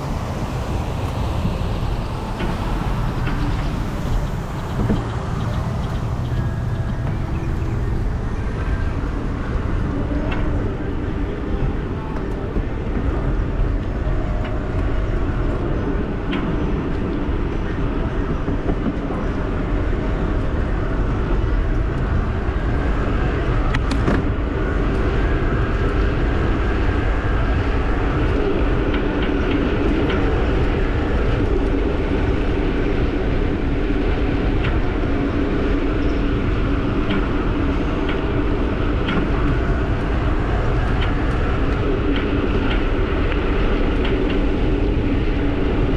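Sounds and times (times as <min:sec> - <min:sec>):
e-bike riding hum: 0:00.0 - 0:45.9
wind rumble on microphone: 0:00.0 - 0:45.9.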